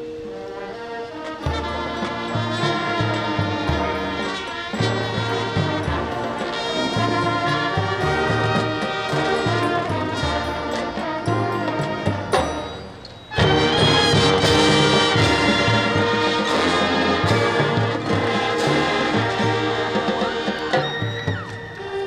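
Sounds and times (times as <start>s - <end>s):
marching band playing: 0.0s - 22.0s.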